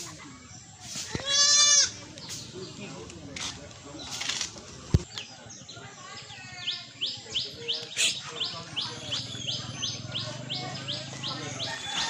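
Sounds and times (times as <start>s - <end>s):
bird chirping: 2.1s - 12.0s.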